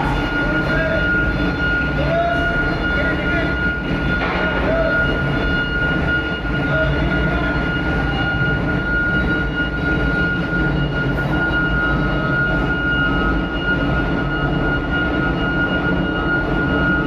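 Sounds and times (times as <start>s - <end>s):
heavy engines rumbling: 0.0s - 17.0s
high-pitched whine: 0.0s - 17.0s.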